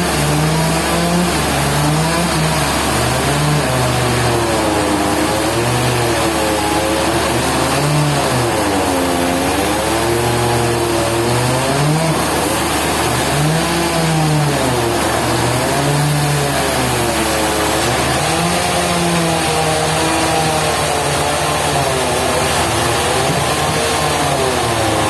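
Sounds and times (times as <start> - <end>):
sawmill engine running: 0.0 - 25.0.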